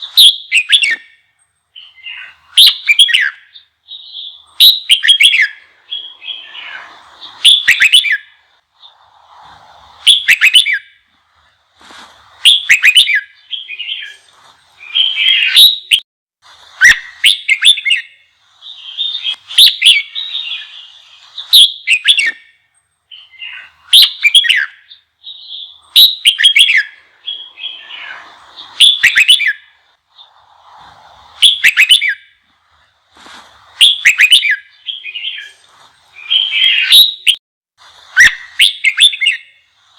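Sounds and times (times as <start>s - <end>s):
bulbul singing: 0.0s - 9.4s, 12.4s - 16.0s, 16.8s - 32.8s, 33.6s - 37.4s.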